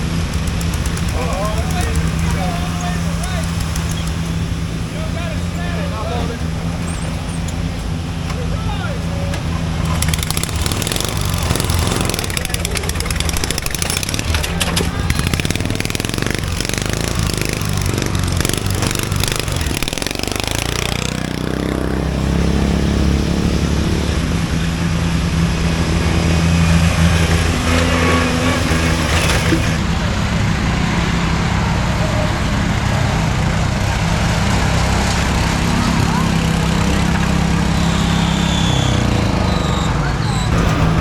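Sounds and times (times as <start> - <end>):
lawn mower engines racing: 0.0 - 41.0.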